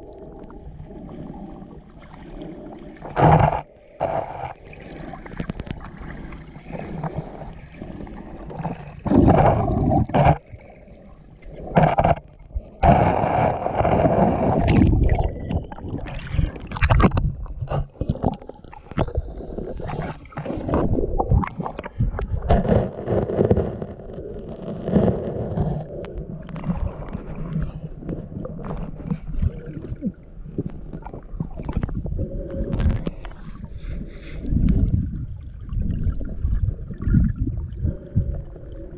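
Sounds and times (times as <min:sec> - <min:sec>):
underwater water gurgling: 0:00.0 - 0:38.9.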